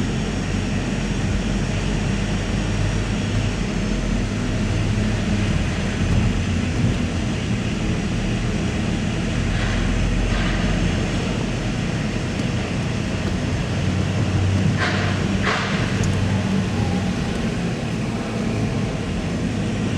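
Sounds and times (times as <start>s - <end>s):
low rumble of vehicle engines: 0.0s - 19.9s.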